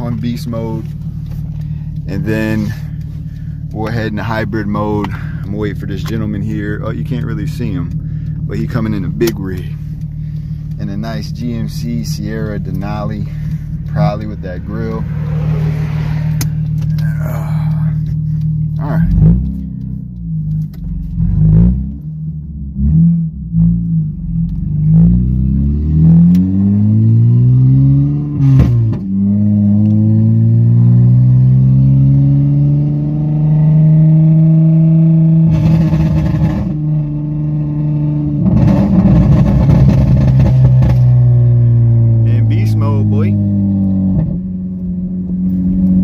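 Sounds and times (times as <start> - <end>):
car engine revving in cabin: 0.0 - 46.0.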